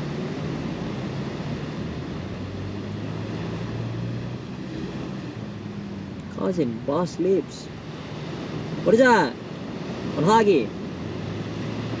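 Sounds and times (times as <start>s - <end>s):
surf: 0.0s - 12.0s
vehicle engine humming: 0.0s - 12.0s
wind: 0.0s - 12.0s.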